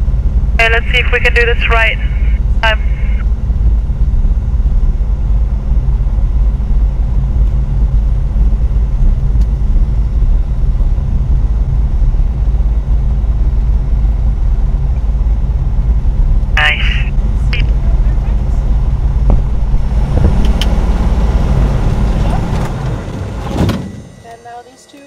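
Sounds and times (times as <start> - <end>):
aircraft engine and propeller drone: 0.0 - 25.0.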